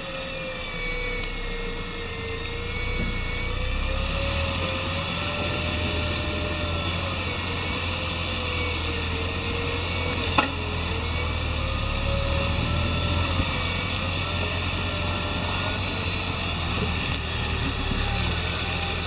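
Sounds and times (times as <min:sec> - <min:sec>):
vehicle engine rumbling off road: 0:00.0 - 0:19.0.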